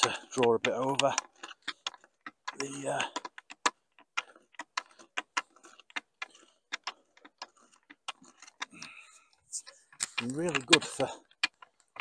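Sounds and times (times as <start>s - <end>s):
hoe scraping through soil: 0.0s - 3.4s, 4.2s - 12.0s.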